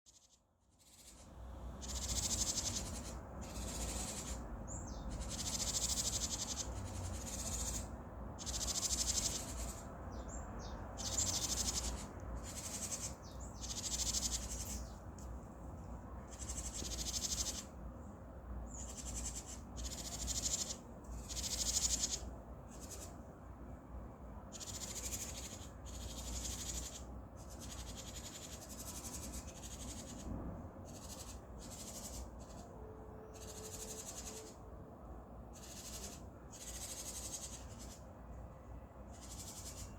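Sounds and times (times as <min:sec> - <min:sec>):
birds calling in buzzy bursts: 0:00.2 - 0:15.0, 0:16.2 - 0:17.8, 0:18.6 - 0:23.3, 0:24.5 - 0:34.7, 0:35.4 - 0:38.3, 0:39.0 - 0:39.9.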